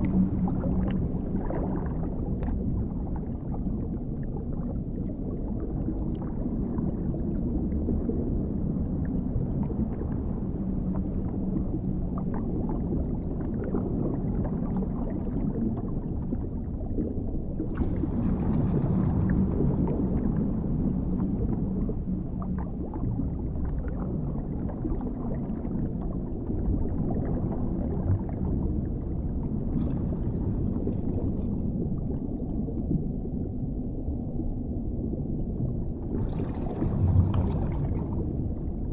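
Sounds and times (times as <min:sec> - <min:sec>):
bubble gurgles and clicks: 0:00.0 - 0:38.9
deep underwater rumble: 0:00.0 - 0:38.9.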